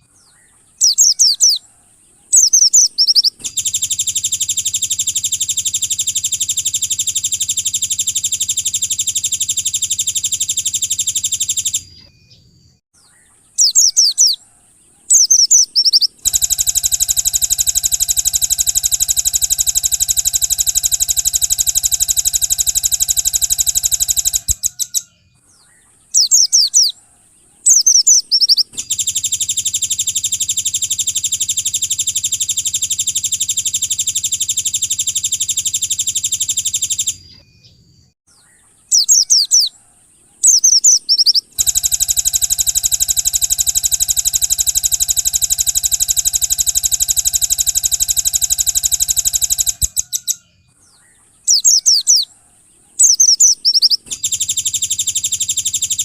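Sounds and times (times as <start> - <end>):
songbird whistles: 0.1 - 52.3, 52.9 - 56.0
songbird buzzing trills: 0.7 - 12.1, 13.6 - 25.0, 26.1 - 37.3, 38.9 - 50.4, 51.4 - 56.0.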